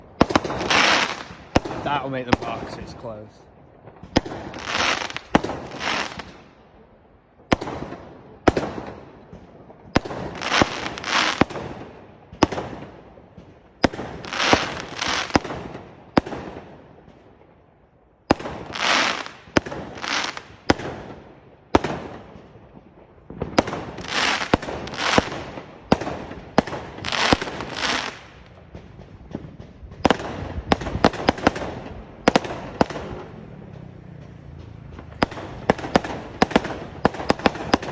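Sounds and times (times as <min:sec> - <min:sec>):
fireworks bangs and crackling: 0:00.0 - 0:37.9.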